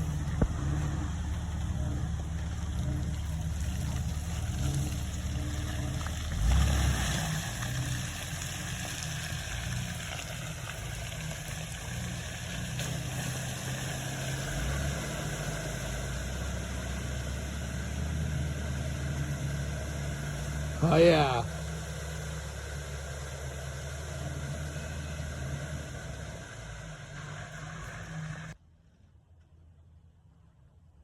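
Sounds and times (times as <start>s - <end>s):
car engine running: 0.0s - 28.6s.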